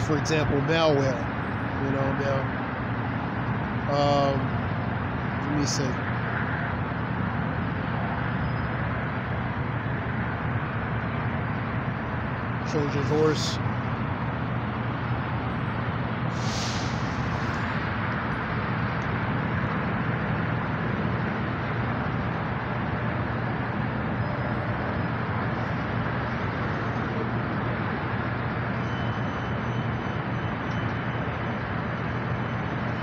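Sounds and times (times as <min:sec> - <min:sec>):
traffic rush: 0:00.0 - 0:33.0.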